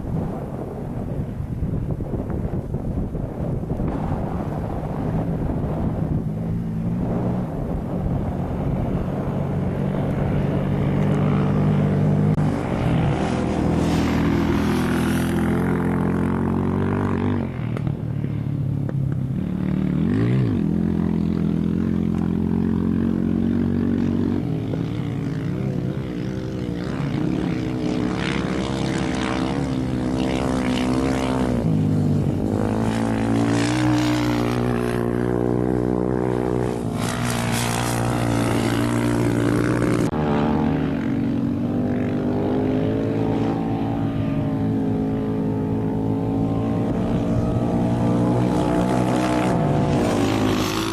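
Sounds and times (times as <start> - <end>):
rally car engines passing: 0.0 - 50.9.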